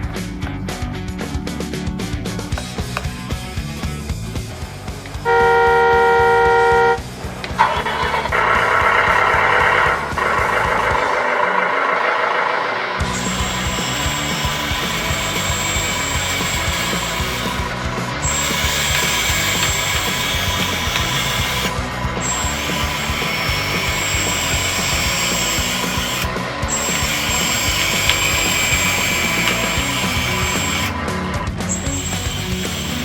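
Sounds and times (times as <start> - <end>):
background music: 0.0 - 33.0
toy bulldozer motor whining: 5.2 - 33.0.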